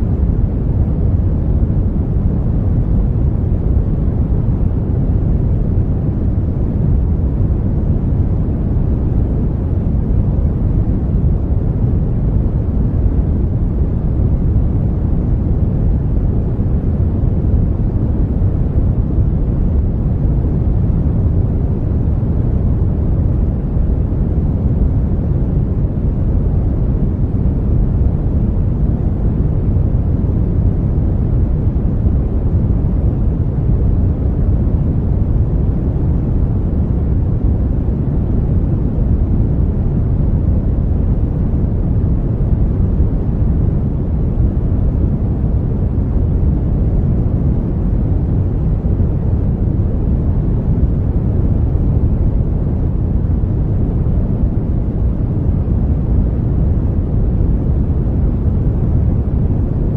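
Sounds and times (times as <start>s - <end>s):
brown noise: 0.0s - 59.9s.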